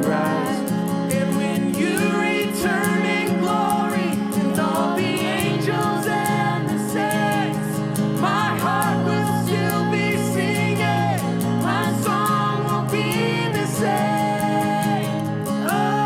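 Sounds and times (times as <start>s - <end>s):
guitar: 0.0s - 16.0s
person singing: 0.0s - 16.0s.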